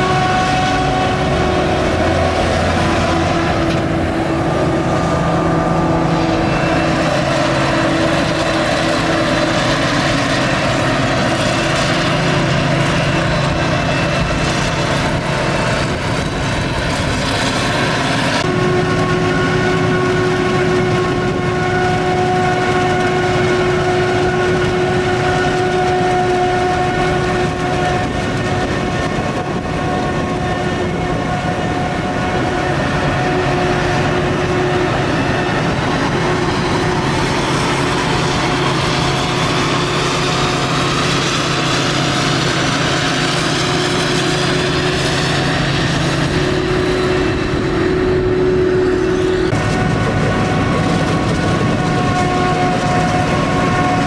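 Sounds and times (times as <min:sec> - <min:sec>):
forage harvester engine and chopping: 0:00.0 - 0:54.0.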